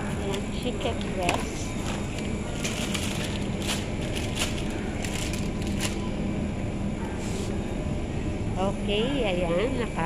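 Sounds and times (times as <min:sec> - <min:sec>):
refrigerated display cases humming: 0:00.0 - 0:10.0
store noise: 0:00.0 - 0:10.0.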